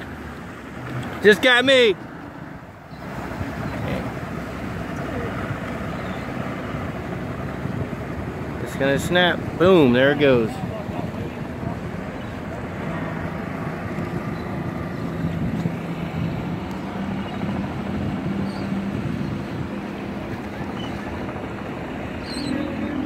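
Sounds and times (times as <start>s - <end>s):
boat engines humming: 0.0s - 23.0s
wind on microphone: 2.9s - 23.0s.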